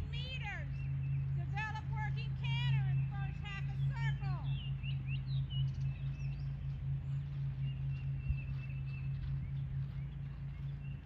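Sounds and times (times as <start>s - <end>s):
steady low hum: 0.0s - 11.0s
wind rumble on microphone: 0.0s - 11.0s.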